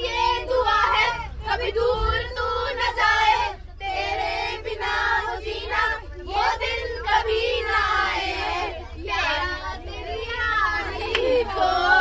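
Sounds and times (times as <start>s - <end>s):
bus engine hum: 0.0s - 12.0s
girls singing together: 0.0s - 12.0s.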